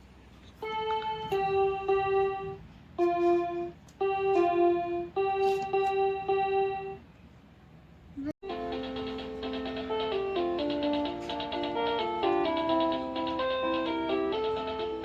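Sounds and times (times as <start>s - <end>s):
toy keyboard playing single notes: 0.6s - 7.0s, 8.4s - 15.0s.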